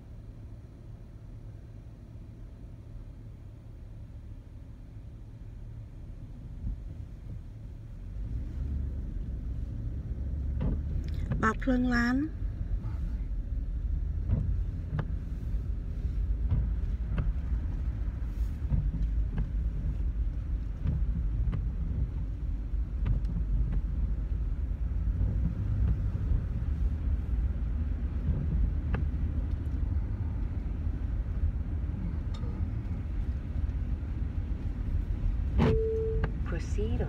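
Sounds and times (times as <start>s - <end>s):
car road rumble: 0.0s - 37.0s.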